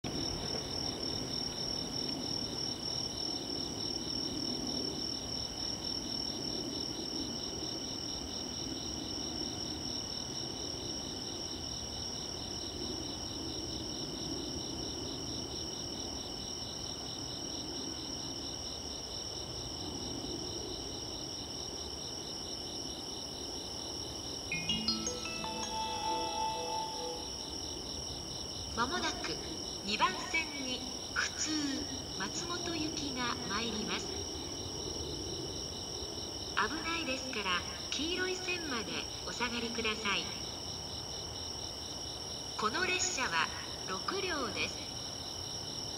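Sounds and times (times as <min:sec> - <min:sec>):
insects trilling: 0:00.1 - 0:45.9
rapidly pulsing insect trill: 0:00.1 - 0:45.9.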